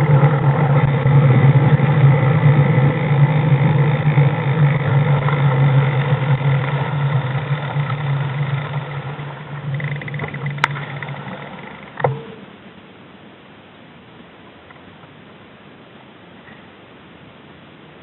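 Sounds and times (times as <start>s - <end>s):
motorcycle engine humming: 0.0s - 18.0s.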